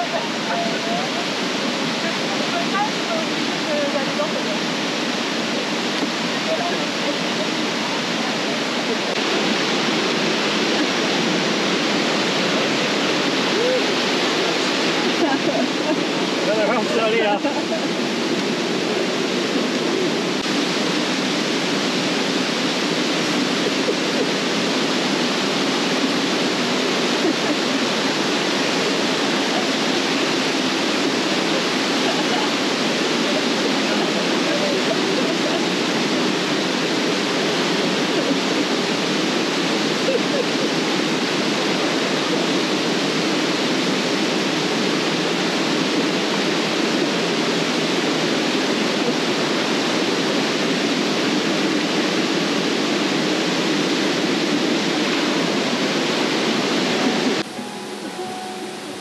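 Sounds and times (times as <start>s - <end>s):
river rushing through rapids: 0.0s - 59.0s.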